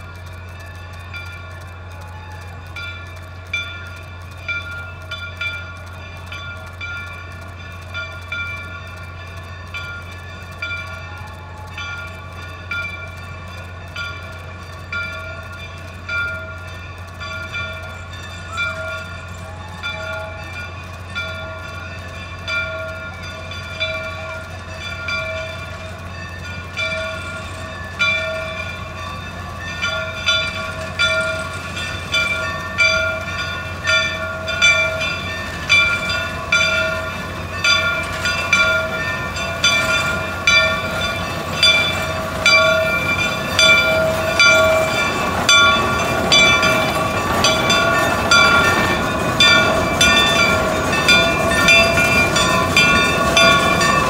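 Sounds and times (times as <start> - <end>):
steam locomotive bell ringing: 0.0 - 54.0
steam locomotives rumbling: 0.0 - 54.0.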